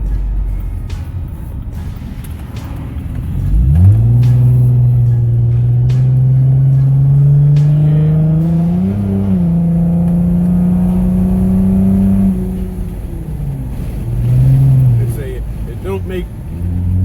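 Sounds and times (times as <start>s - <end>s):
car engine under heavy throttle: 0.0s - 17.0s.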